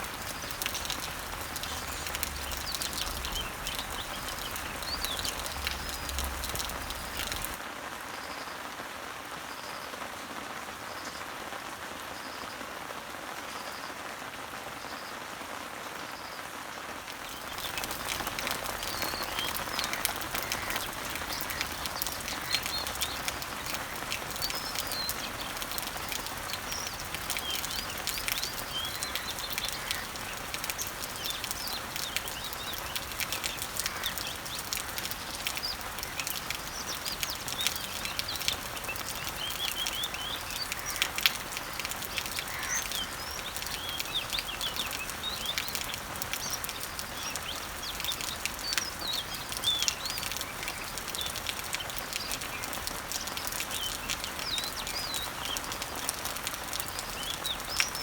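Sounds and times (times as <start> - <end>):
birds chirping: 0.0 - 7.6, 17.1 - 58.0
sharp drip ticks: 0.0 - 7.6, 17.1 - 58.0
rain falling on leaves: 0.0 - 58.0.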